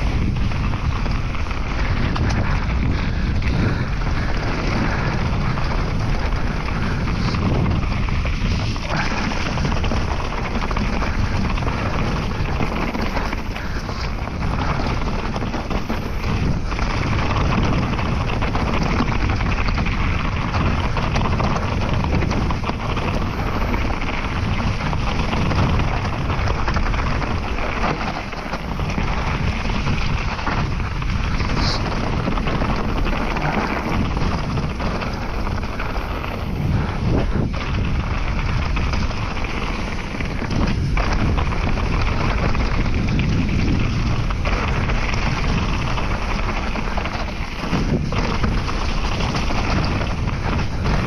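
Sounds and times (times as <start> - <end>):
tyres rolling on dirt: 0.0 - 51.0
wind buffeting microphone: 0.0 - 51.0.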